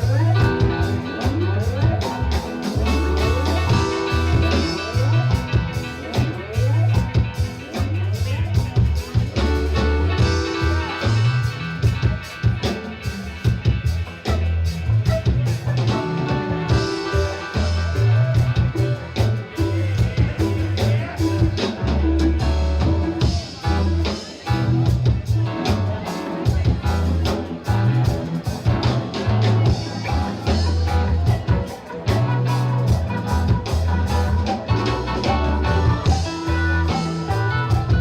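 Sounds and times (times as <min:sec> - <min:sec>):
drum kit beat: 0:00.0 - 0:38.0
electric guitar: 0:00.0 - 0:38.0
heavy bass line: 0:00.0 - 0:38.0.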